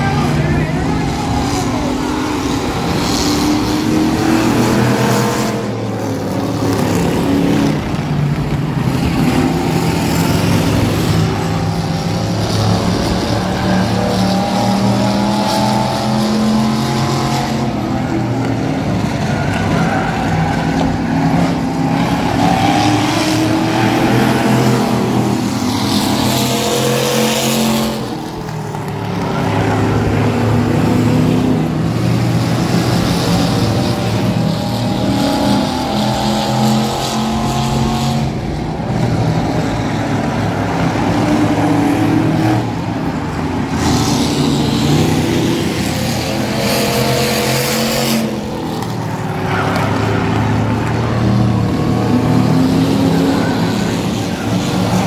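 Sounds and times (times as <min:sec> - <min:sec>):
race car engines: 0:00.0 - 0:55.0.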